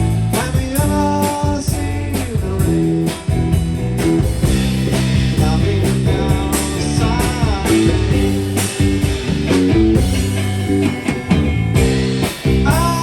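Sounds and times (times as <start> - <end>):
drum strikes: 0.0 - 13.0
instrumental rock music: 0.0 - 13.0.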